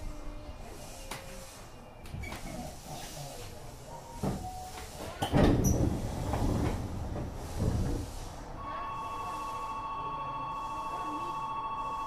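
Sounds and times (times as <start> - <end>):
subway doors sliding open: 0.0 - 12.0.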